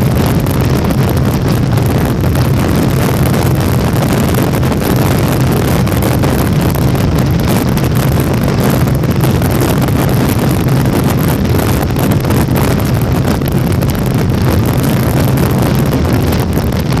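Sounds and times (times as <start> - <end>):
motorcycle engine drone: 0.0 - 17.0
wind rushing over microphone: 0.0 - 17.0.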